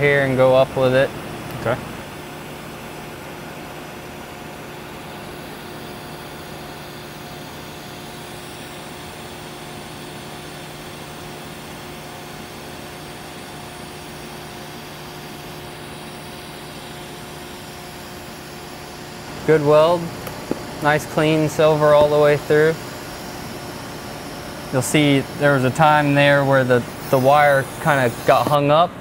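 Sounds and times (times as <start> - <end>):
welding arc hiss: 0.0 - 28.8
constant low hum: 0.0 - 29.0.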